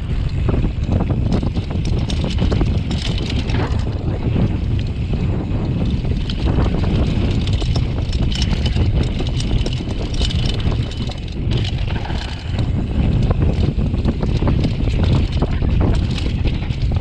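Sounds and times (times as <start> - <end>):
bike clicks and rattles: 0.0 - 17.0
wind buffeting microphone: 0.0 - 17.0.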